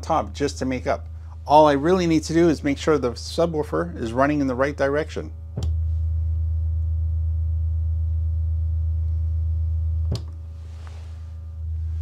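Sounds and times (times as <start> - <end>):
low sine test tone: 0.0 - 12.0.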